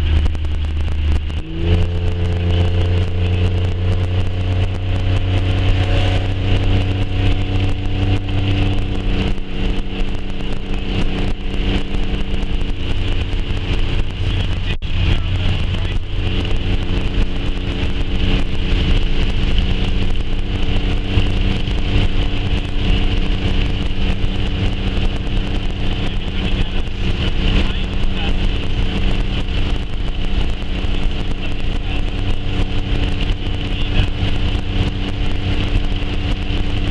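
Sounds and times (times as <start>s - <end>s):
gusty wind buffeting: 0.0s - 36.9s
vehicle hum from inside cab: 0.0s - 36.9s.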